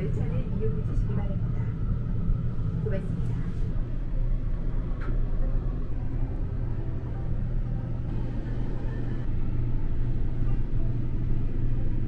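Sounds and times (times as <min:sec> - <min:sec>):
low rumble of train running: 0:00.0 - 0:12.0.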